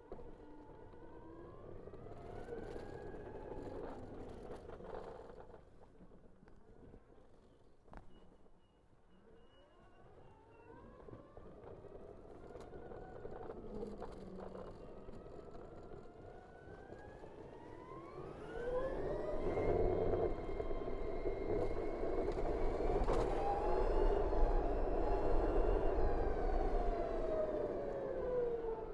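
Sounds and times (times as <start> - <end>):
electric scooter motor whine: 0.1 - 5.4, 9.9 - 28.9.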